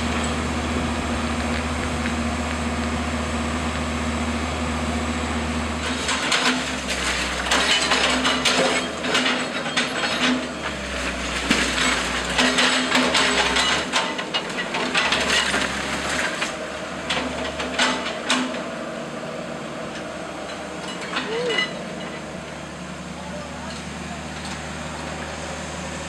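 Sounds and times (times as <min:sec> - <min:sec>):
heavy machine engine hum: 0:00.0 - 0:26.0.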